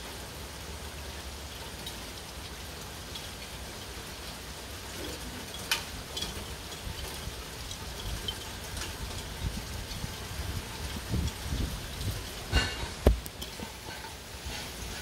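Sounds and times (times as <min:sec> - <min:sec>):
heavy rain falling: 0:00.0 - 0:15.0
low rumble of wind: 0:00.0 - 0:15.0.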